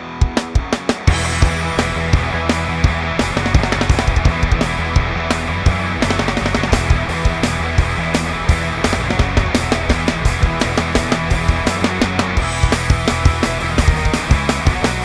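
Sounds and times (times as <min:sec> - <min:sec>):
rock music with distorted guitars: 0:00.0 - 0:15.0.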